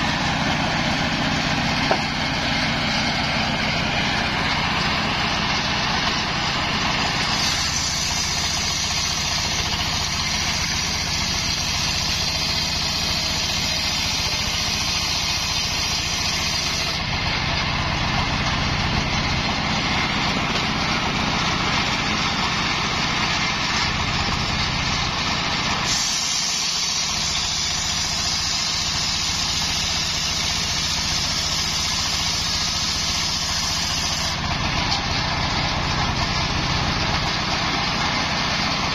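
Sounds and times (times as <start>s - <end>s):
engine drone: 0.0s - 38.9s
saw blade cutting log: 0.0s - 38.9s.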